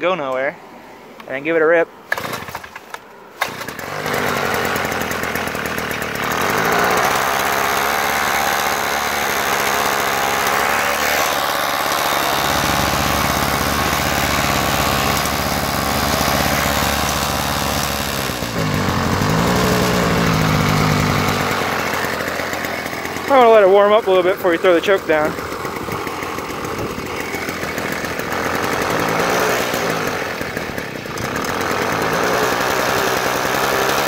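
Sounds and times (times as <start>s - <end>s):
scooter engine pull-started: 2.1s - 34.0s
scooter engine running on choke: 2.1s - 34.0s.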